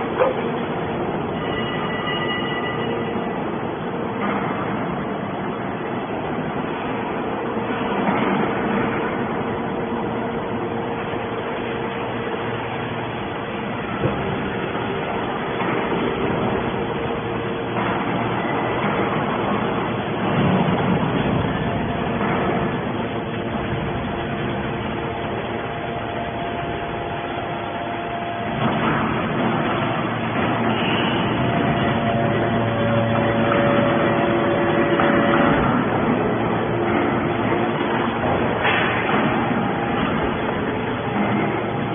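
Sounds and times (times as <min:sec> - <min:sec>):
faint machine whine: 0:00.0 - 0:41.9
hydraulic baler running: 0:00.0 - 0:41.9.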